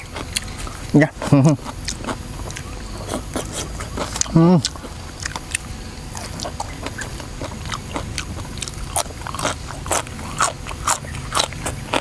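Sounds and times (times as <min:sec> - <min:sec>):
wet chewing and lip smacks: 0:00.0 - 0:12.0.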